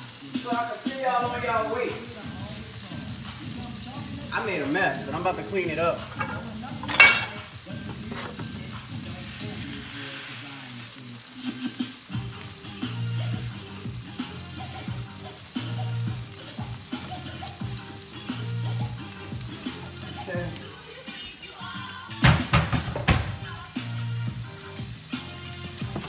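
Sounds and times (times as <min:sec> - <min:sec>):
vegetables sizzling in skillet: 0:00.0 - 0:26.0
background music with low beat: 0:00.1 - 0:09.8, 0:12.0 - 0:20.7, 0:21.6 - 0:26.0.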